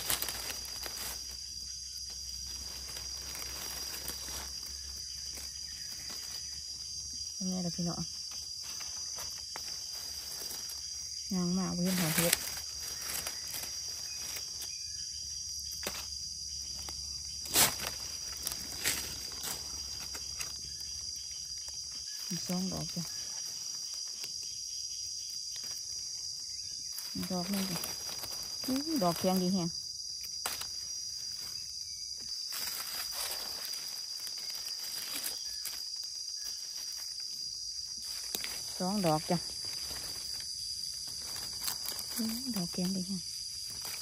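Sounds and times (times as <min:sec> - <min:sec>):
soft rustle: 0:00.0 - 0:07.2, 0:08.1 - 0:14.8, 0:16.8 - 0:24.6, 0:25.6 - 0:29.7, 0:30.3 - 0:44.0
crackles in leaf litter: 0:00.0 - 0:44.0
forest insects droning: 0:00.0 - 0:44.0.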